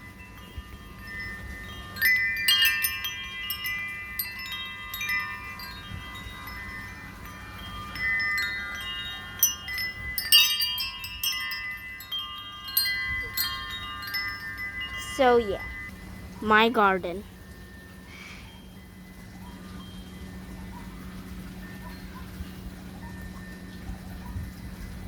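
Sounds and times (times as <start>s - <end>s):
metal wind chimes ringing: 0.0s - 25.0s.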